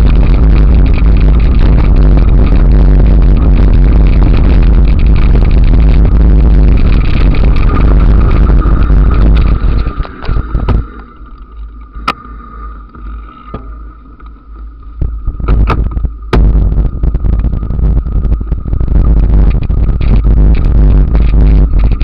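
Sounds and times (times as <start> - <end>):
wind buffeting microphone: 0.0 - 12.1, 13.6 - 22.0
bike knocks and rattles: 0.0 - 22.0
thin steady whine: 0.0 - 22.0.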